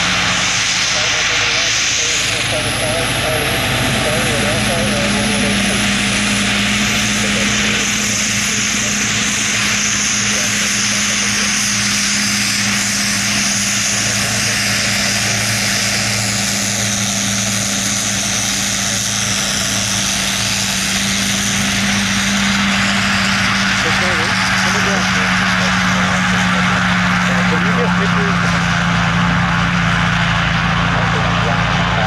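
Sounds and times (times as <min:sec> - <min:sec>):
high-pitched turbine whine: 0:00.0 - 0:32.0
propeller drone: 0:00.0 - 0:32.0.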